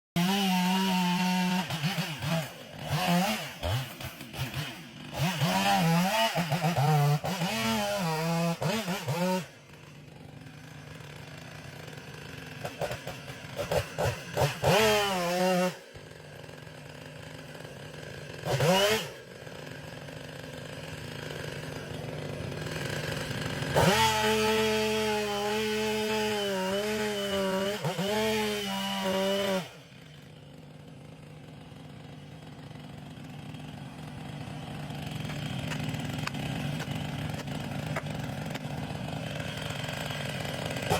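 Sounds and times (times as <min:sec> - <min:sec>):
chainsaw revving and cutting: 0:00.2 - 0:40.9.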